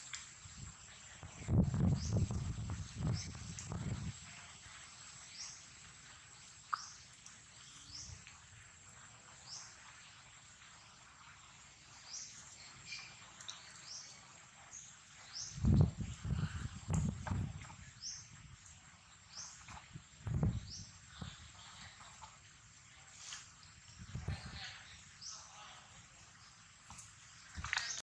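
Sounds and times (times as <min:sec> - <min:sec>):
rustle: 0:00.0 - 0:28.0.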